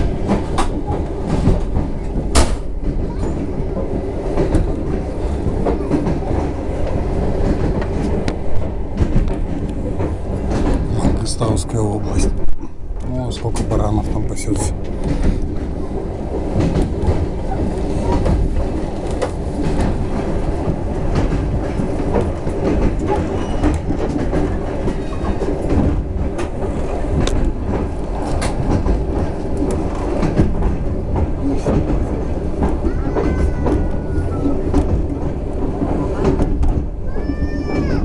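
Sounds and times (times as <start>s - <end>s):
train rumbling: 0.0s - 38.0s
wheels clicking over rail joints: 0.0s - 38.0s.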